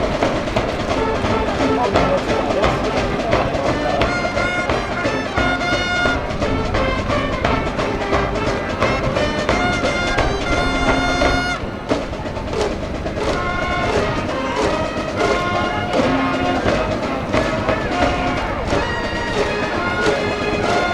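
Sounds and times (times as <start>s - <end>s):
brass band trumpets playing: 0.0s - 20.9s
drums steady beat: 0.0s - 20.9s.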